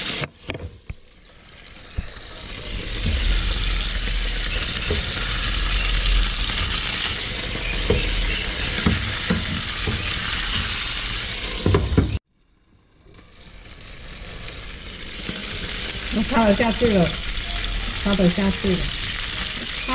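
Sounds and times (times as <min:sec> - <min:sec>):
fish sizzling in hot oil: 0:00.0 - 0:19.9.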